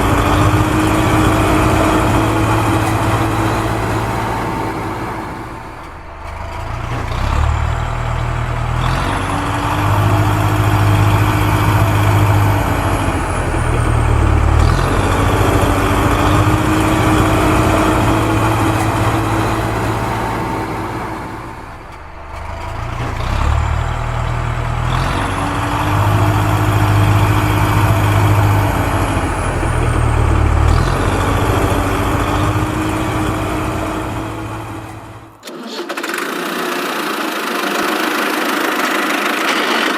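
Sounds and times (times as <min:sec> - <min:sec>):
heavy vehicle engine rumble: 0:00.0 - 0:35.6.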